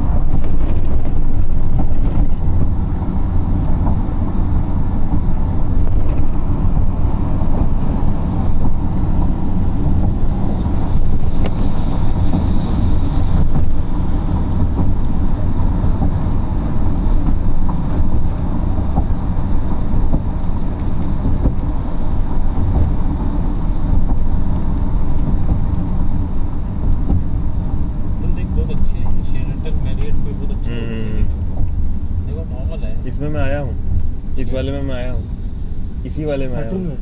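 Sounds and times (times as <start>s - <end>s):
car road noise from inside: 0.0s - 37.0s.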